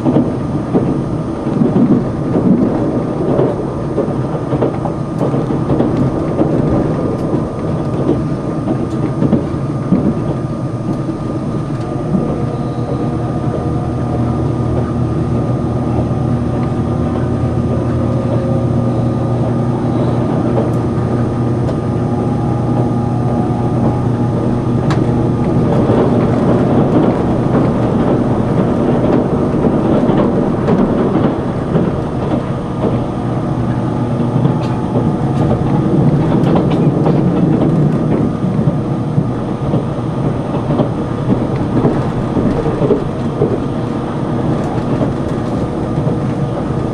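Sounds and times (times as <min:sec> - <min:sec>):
train running noise: 0:00.0 - 0:46.9.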